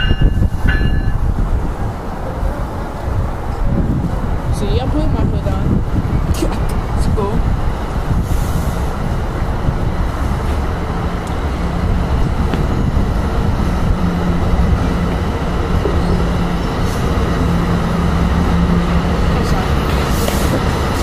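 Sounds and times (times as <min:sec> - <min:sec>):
train rumbling past on rails: 0:00.0 - 0:21.0.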